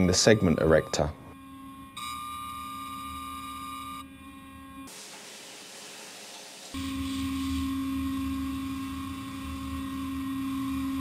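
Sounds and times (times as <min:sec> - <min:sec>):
boring machine hum: 0:00.0 - 0:11.0.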